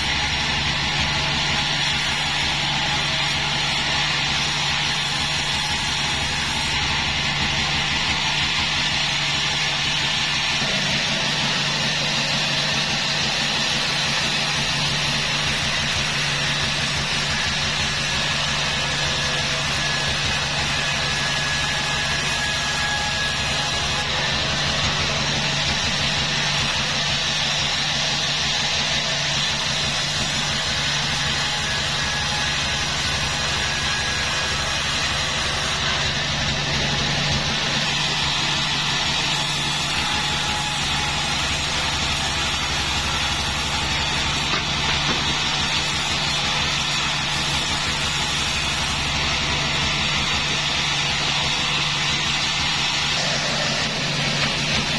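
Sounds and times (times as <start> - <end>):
sawmill machinery droning: 0.0 - 54.9.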